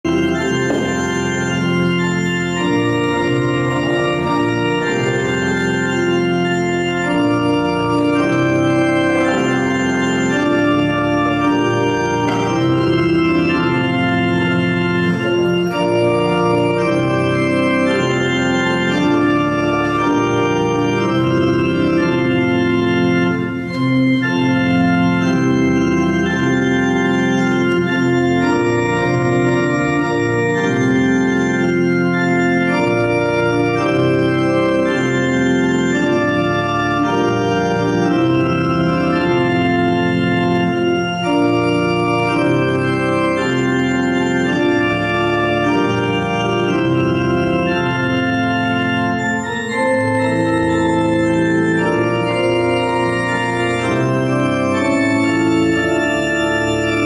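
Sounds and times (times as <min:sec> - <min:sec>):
organ playing chords: 0:00.0 - 0:57.0.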